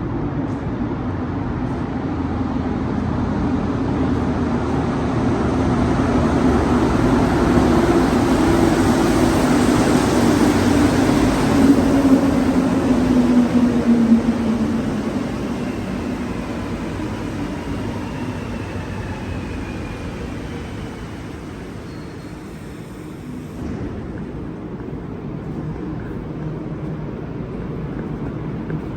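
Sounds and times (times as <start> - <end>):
metro train rumble and hum: 0.0 - 28.9.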